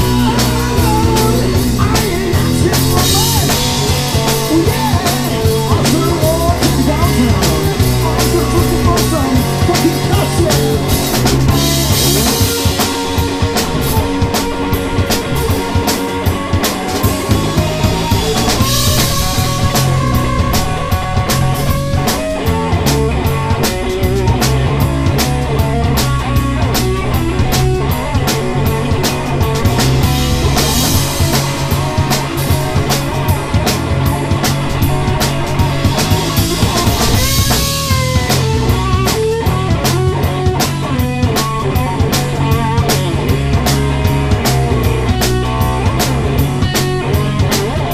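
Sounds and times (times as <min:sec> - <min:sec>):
drum kit beat: 0:00.0 - 0:47.9
electric guitars: 0:00.0 - 0:47.9.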